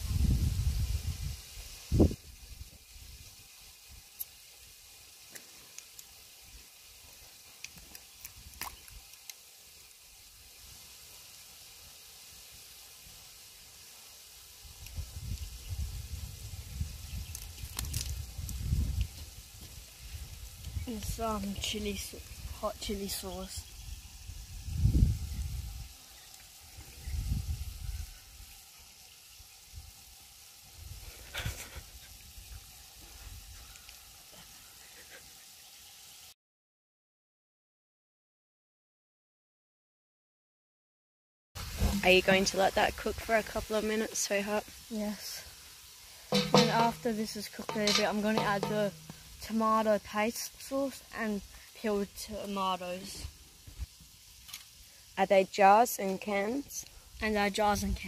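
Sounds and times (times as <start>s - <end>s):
faint sizzling of meat: 0.0s - 36.4s, 41.6s - 58.0s.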